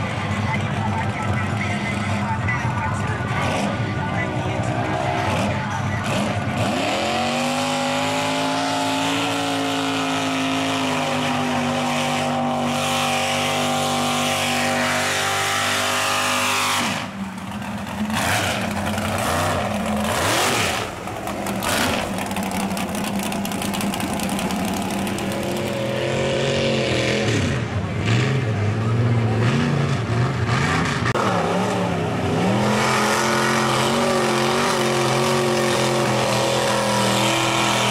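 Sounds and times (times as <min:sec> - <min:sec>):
truck engine revving: 0:00.0 - 0:37.9.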